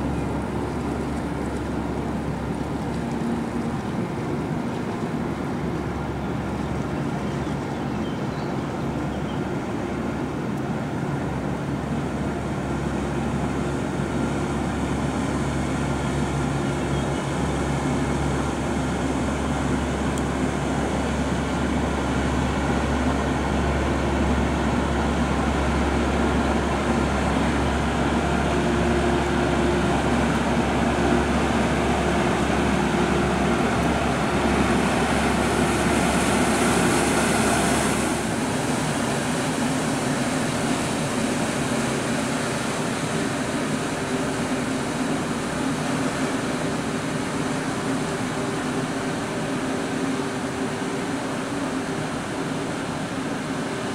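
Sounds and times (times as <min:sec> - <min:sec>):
diesel engine drone: 0:00.0 - 0:53.9.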